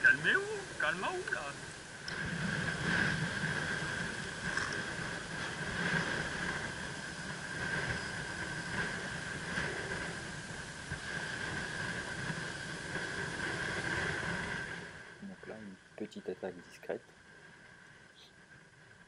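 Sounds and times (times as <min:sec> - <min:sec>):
sea over shallow water: 0:00.0 - 0:16.0, 0:17.1 - 0:19.0
thin high whine: 0:00.0 - 0:18.7
wind: 0:00.0 - 0:19.0.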